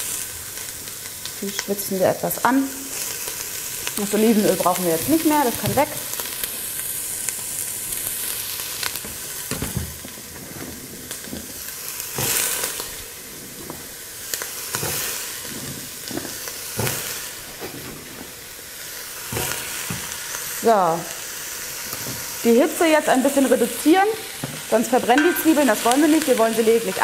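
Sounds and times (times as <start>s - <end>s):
vegetables sizzling in oil: 0.0s - 27.0s.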